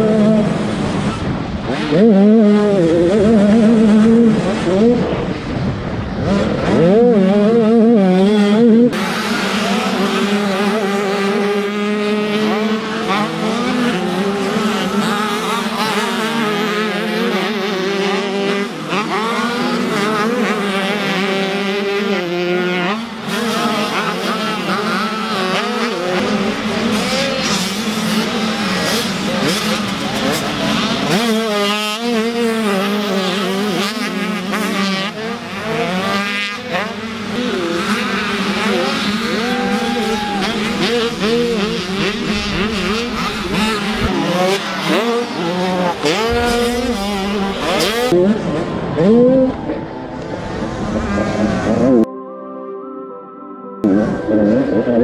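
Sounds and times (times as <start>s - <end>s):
motocross bike engines revving: 0.0s - 52.1s, 53.8s - 55.0s.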